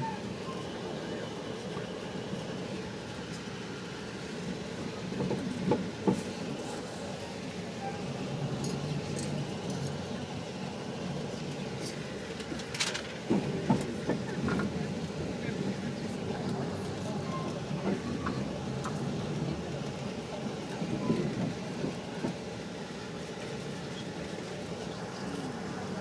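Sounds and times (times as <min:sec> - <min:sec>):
low rumble of a train yard: 0:00.0 - 0:26.0.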